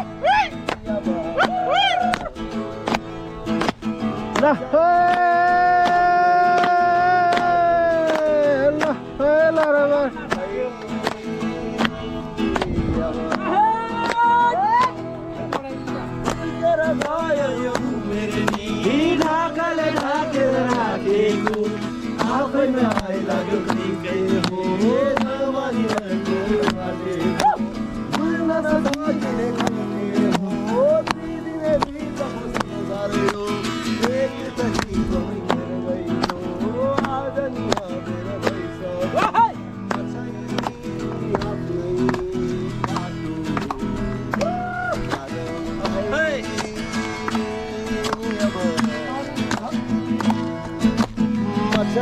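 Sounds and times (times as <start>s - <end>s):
song with singing over a beat: 0.0s - 52.0s.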